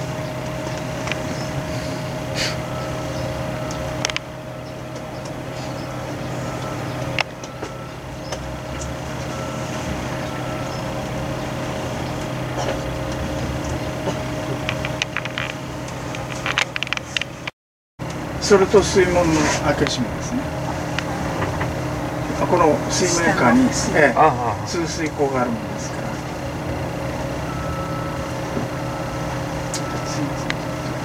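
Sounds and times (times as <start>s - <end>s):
mechanical hum with faint whine: 0.0s - 31.0s.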